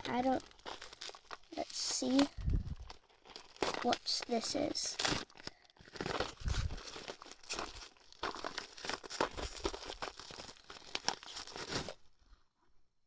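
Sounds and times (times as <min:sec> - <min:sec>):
packaging crinkling and tearing: 0:00.0 - 0:12.1.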